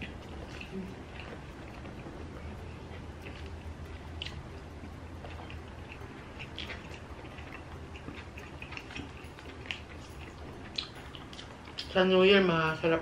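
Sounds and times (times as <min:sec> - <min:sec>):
people chewing food: 0:00.0 - 0:13.0
steady low hum: 0:00.0 - 0:13.0.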